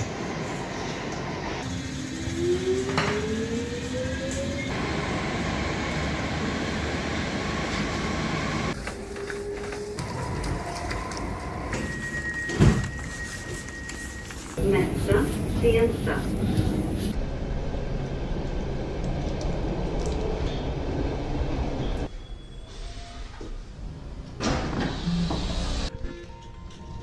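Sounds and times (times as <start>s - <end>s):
metro train rumbling on rails: 0.0s - 13.5s, 14.5s - 23.1s
train whine: 0.0s - 23.5s.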